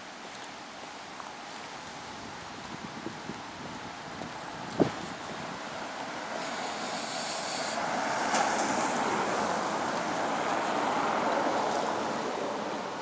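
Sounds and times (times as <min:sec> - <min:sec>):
tyres swishing on wet road: 0:00.0 - 0:13.0.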